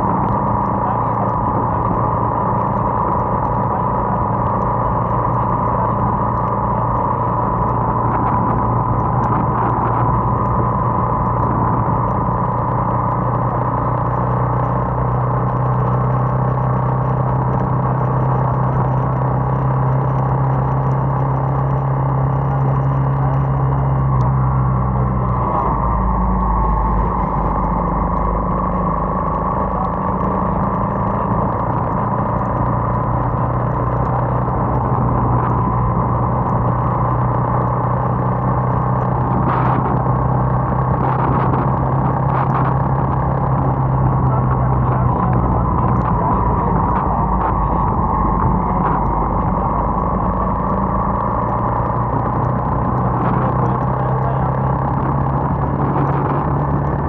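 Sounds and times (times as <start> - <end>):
motorcycle engine running: 0.0 - 57.0
wet road noise: 0.0 - 57.0
wind: 0.0 - 57.0.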